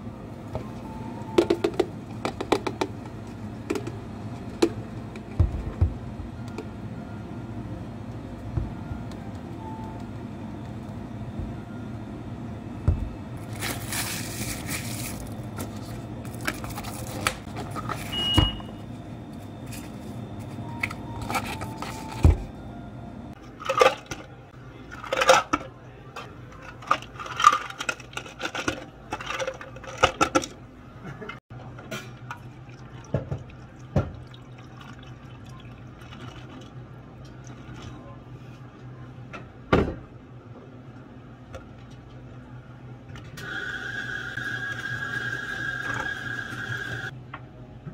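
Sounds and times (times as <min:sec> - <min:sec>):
low steady hum: 0:00.0 - 0:43.4.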